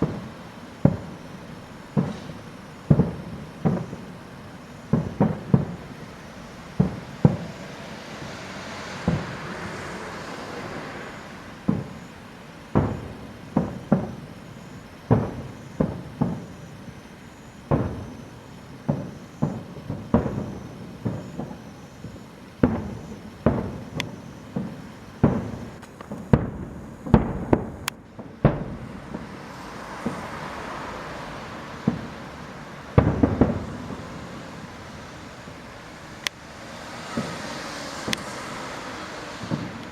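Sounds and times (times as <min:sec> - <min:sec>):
firework shells bursting: 0:00.0 - 0:09.8, 0:12.7 - 0:39.9.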